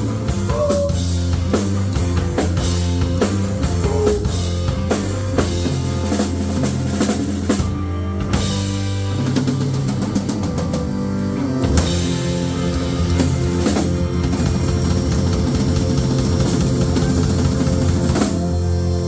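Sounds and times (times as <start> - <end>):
drum and cymbal hits: 0.0 - 11.0, 11.6 - 18.7
rock band holding loud chord: 0.0 - 19.0.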